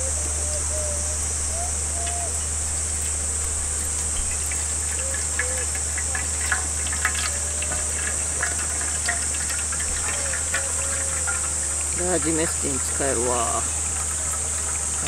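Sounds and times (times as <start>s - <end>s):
insects droning: 0.0s - 15.0s
water trickling into metal tin: 1.5s - 15.0s.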